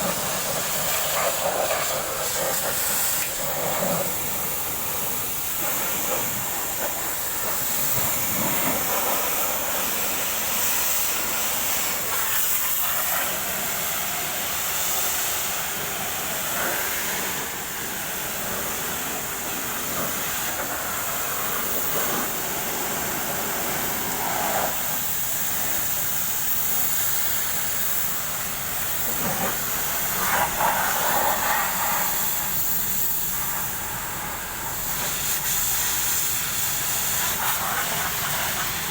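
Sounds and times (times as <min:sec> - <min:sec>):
high-pressure water jet hissing: 0:00.0 - 0:38.9.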